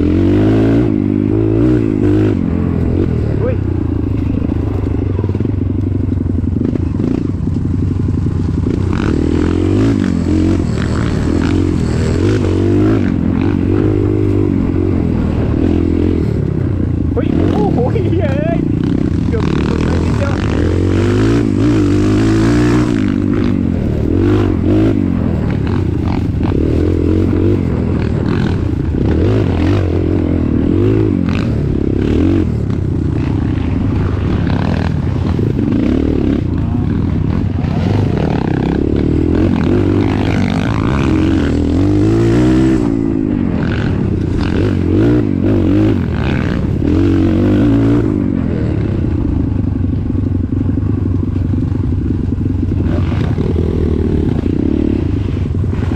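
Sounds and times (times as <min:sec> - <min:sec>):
off-road vehicle engine revving: 0:00.0 - 0:05.6, 0:08.0 - 0:49.6, 0:52.2 - 0:55.9.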